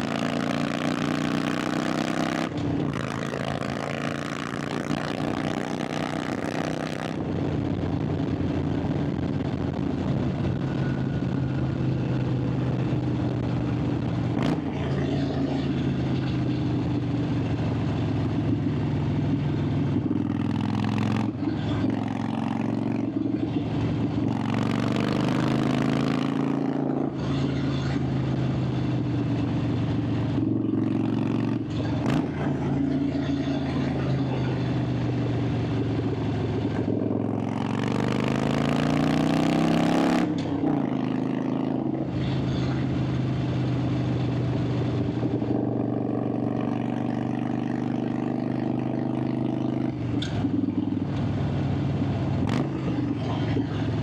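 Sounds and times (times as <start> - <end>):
motorcycle engine and exhaust running: 0.0 - 54.0.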